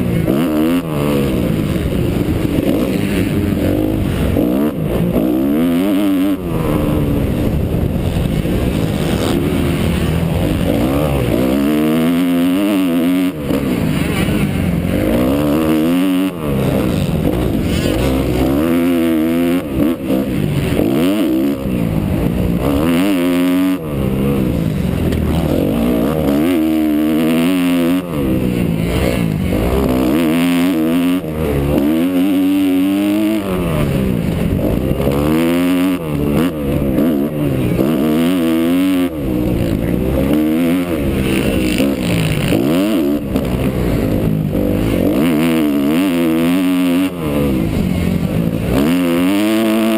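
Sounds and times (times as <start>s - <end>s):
motocross engine revving: 0.0s - 49.9s.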